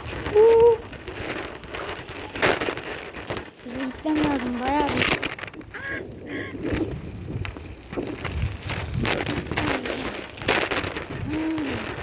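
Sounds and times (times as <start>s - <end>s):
bike basket knocking and rattling: 0.0s - 5.8s, 6.7s - 12.0s.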